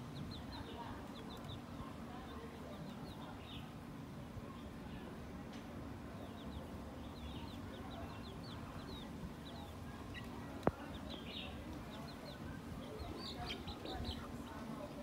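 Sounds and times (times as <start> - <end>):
chicks peeping: 0.0 - 3.8, 6.1 - 15.0.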